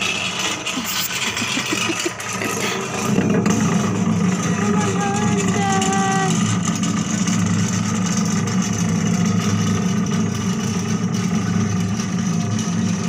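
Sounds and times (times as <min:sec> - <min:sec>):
chairlift mechanical drone: 0:00.0 - 0:13.0.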